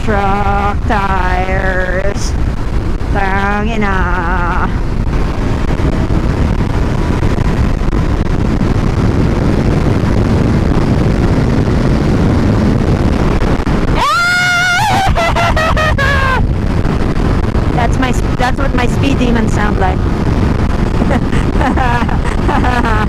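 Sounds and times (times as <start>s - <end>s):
wind and road noise roar: 0.0s - 23.0s.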